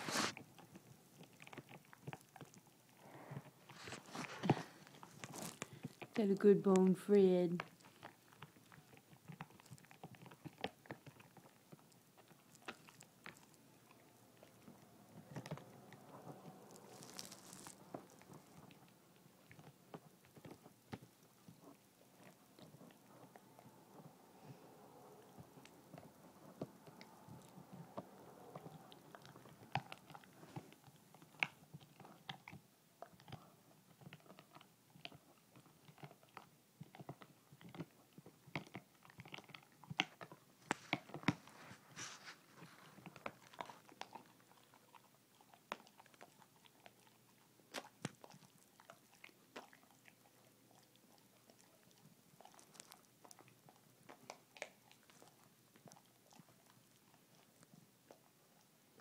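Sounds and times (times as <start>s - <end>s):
dog crunching on chew bone: 0.0s - 6.2s, 7.6s - 59.0s.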